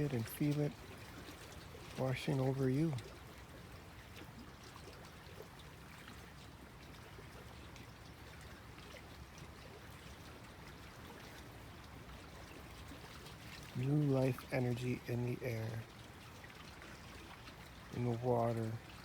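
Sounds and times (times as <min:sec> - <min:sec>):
small water splashes: 0:00.0 - 0:19.0
small waves lapping: 0:00.0 - 0:19.0.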